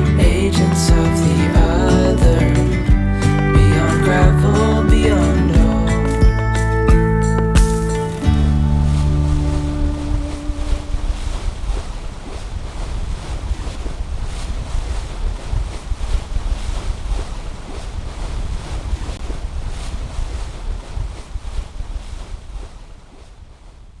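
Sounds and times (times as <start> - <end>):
wind buffeting microphone: 0.0 - 22.9
water washing along hull: 0.0 - 23.3.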